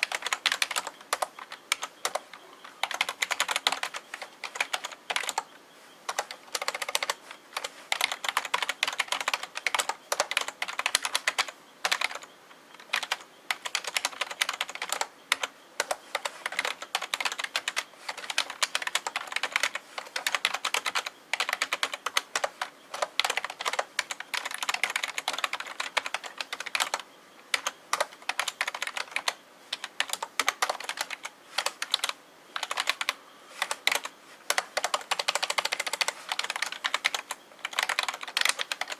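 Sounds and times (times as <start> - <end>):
keyboard typing clicks: 0.0 - 5.5, 6.1 - 38.9.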